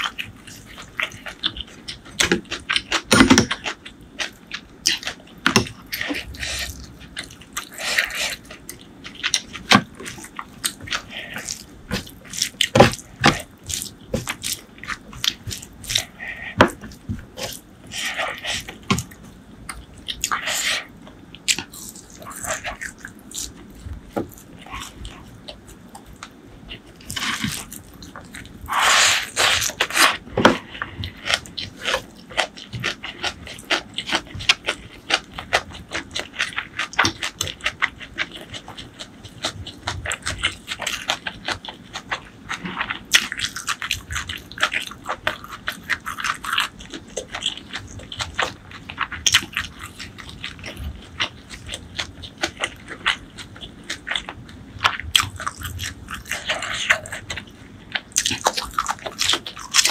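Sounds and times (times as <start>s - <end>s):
wet chewing and mouth clicks: 0.0s - 59.9s.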